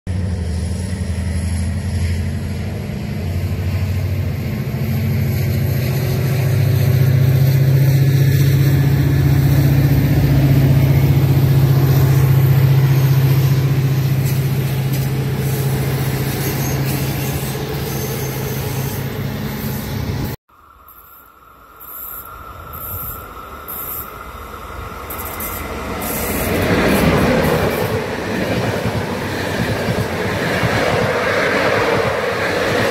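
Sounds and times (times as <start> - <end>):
passenger train passing: 0.1 - 32.9.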